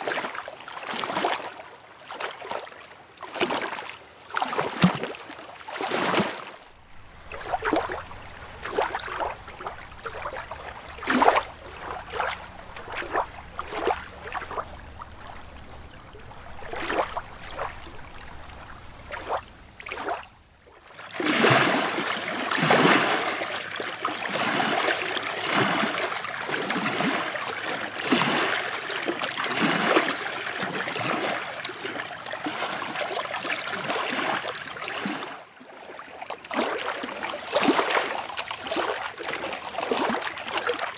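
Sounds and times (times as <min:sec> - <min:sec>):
water splashing: 0:00.0 - 0:40.9.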